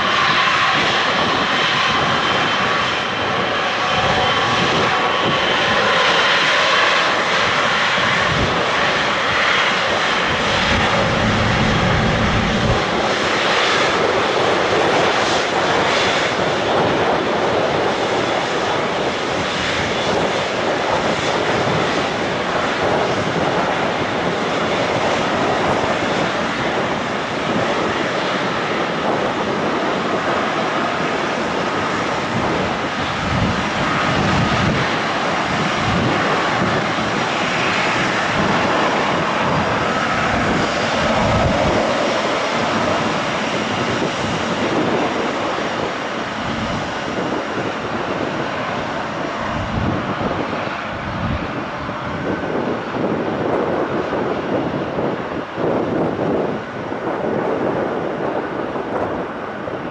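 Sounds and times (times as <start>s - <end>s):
aircraft engines running: 0.0s - 59.9s.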